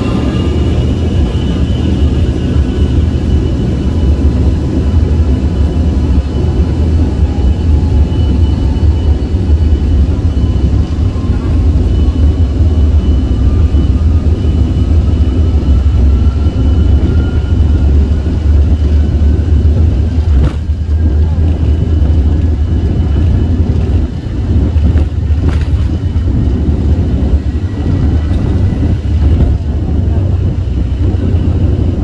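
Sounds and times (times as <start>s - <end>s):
jet cabin rumble: 0.0s - 32.0s
turbofan whine: 0.0s - 32.0s.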